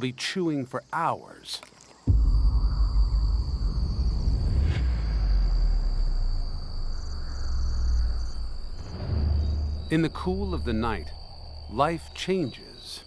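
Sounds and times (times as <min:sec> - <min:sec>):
insects trilling: 0:00.0 - 0:13.0
deep low rumble: 0:02.1 - 0:13.0.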